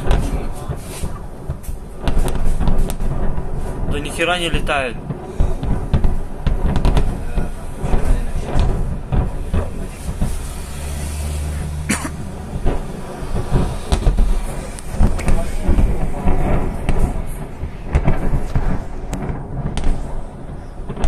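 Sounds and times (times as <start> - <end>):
distant explosions booming: 0.0 - 21.0
heavy rumble: 0.0 - 21.0.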